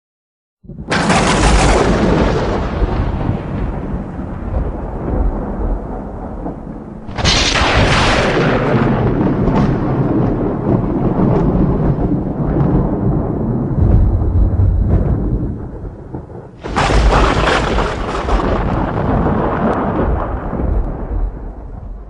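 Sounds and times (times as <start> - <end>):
sharp thunder crack: 0.6 - 22.0
thunder rumbling: 0.6 - 22.0.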